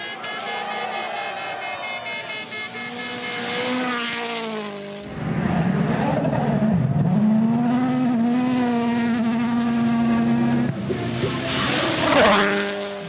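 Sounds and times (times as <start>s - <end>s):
rally car engines revving: 1.9s - 13.0s.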